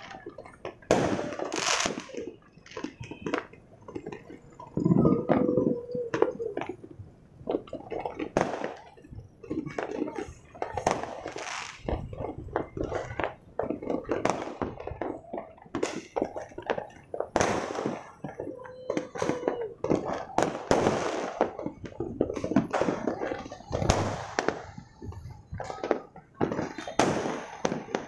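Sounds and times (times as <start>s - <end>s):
echoing firework bangs: 0.0s - 28.0s
fireworks popping and crackling: 0.0s - 28.0s.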